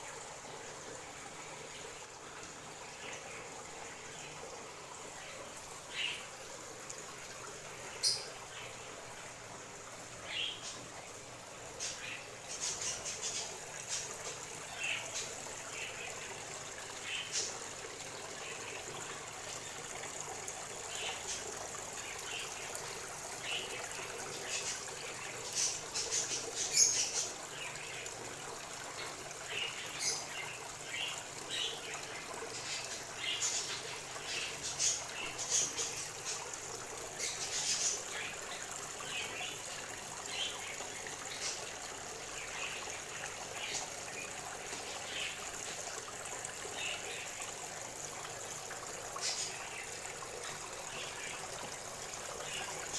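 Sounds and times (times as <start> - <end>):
small birds chirping: 2.8 - 6.4, 7.7 - 9.4, 10.0 - 52.9.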